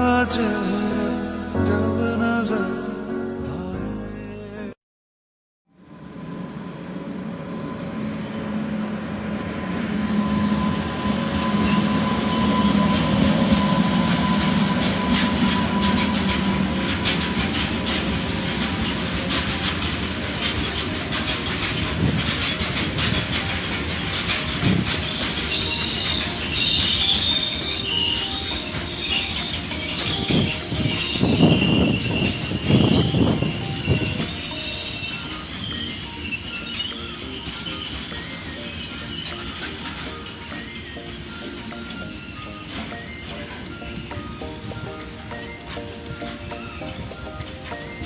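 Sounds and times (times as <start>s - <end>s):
freight train rumbling: 5.8s - 48.0s
high wheel squeals: 6.2s - 48.0s
wheels clattering over rail joints: 8.3s - 48.0s.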